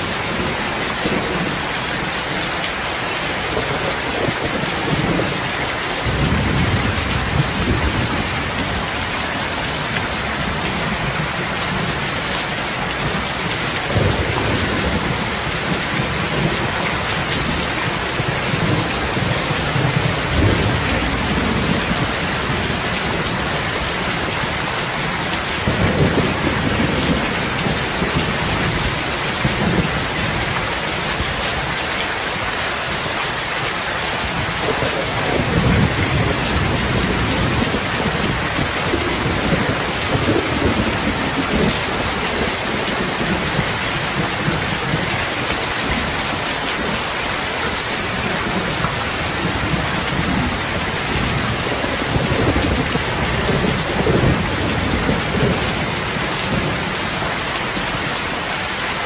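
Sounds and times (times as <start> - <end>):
heavy rain: 0.0 - 59.0
low rolling thunder: 3.3 - 31.7, 34.3 - 47.0, 47.8 - 57.9.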